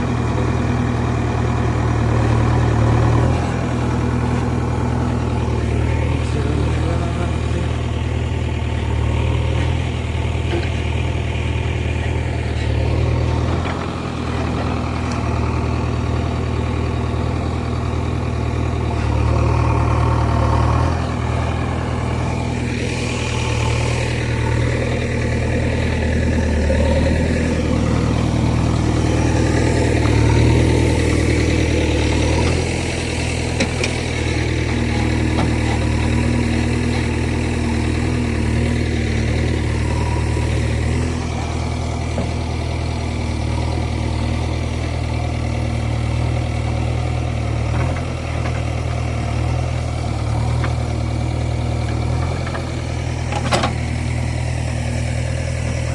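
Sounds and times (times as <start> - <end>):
heavy vehicle engine running: 0.0 - 55.9.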